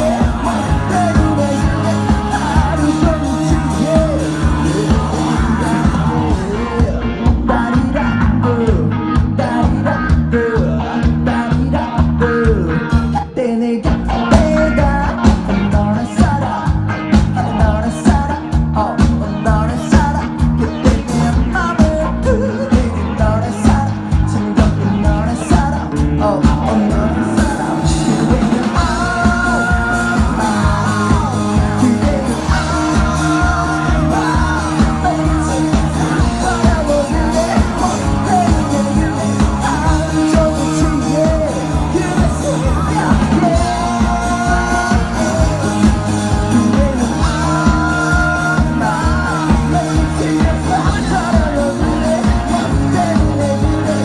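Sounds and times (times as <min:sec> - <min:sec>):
drums keeping a steady beat: 0:00.0 - 0:54.0
lead singer singing: 0:00.0 - 0:54.0
rock band playing live: 0:00.0 - 0:54.0.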